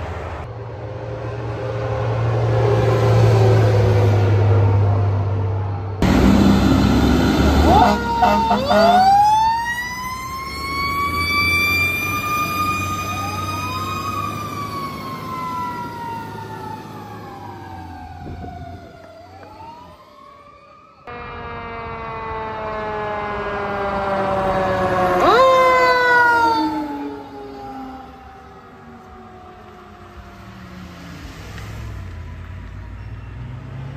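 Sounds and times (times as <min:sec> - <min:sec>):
fire truck sirens wailing: 0:00.0 - 0:33.9.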